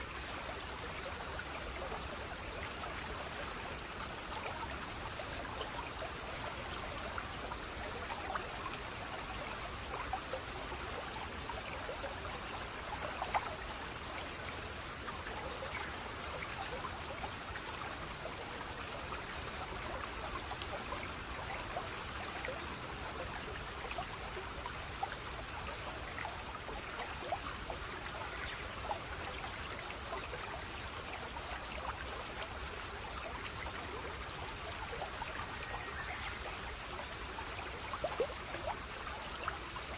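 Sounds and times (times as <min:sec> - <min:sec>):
running water trickling: 0:00.0 - 0:39.9
small splashes and drips: 0:00.0 - 0:39.9.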